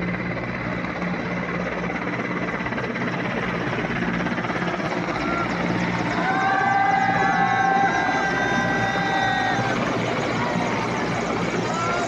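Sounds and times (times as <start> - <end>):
helicopter rotor blades clattering: 0.0 - 12.0.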